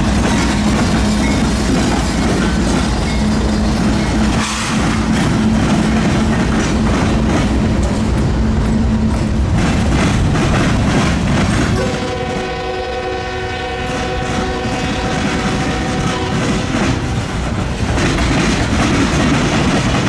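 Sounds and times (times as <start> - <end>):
freight train wheels clacking: 0.0 - 20.0.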